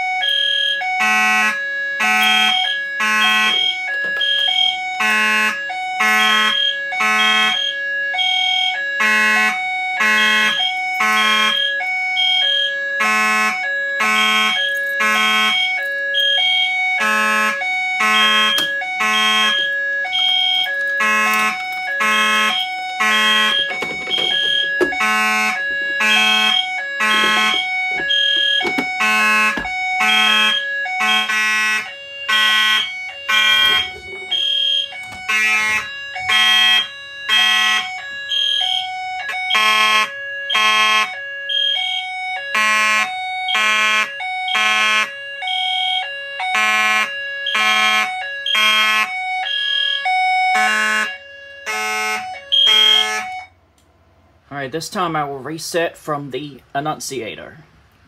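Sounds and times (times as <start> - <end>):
fire alarm horns pulsing: 0.0 - 55.2.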